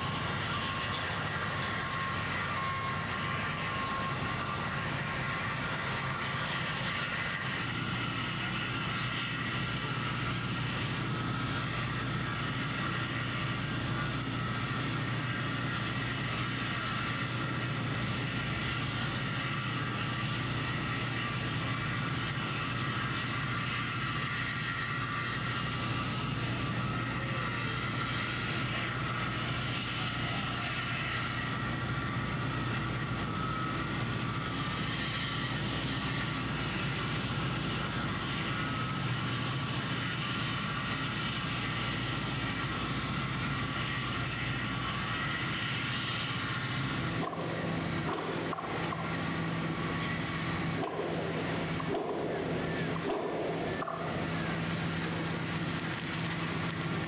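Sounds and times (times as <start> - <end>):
distant machinery drone: 0.0 - 57.0
faint high whine: 0.0 - 57.0.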